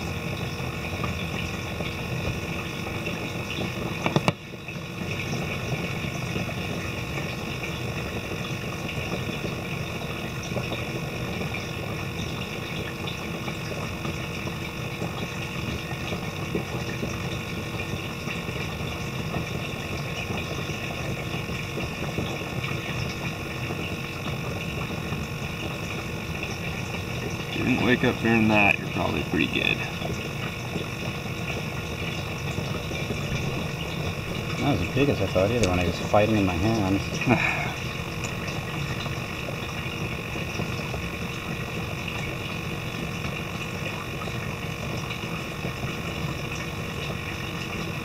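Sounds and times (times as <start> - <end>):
small water pump humming: 0.0 - 48.0
water running: 0.0 - 48.0.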